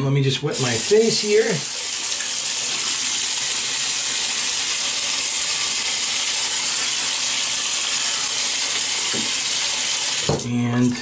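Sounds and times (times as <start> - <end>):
tap water running into sink: 0.5 - 11.0.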